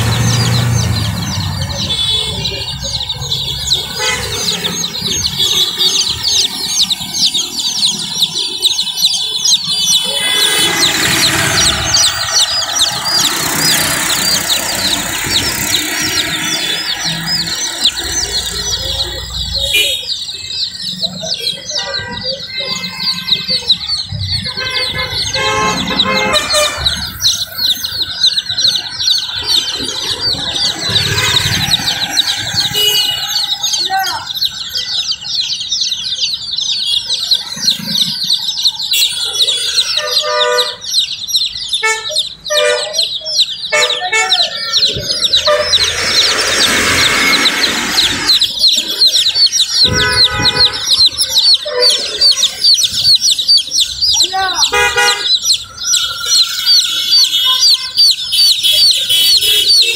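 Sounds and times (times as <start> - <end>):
baby chicks peeping: 0.0 - 59.9.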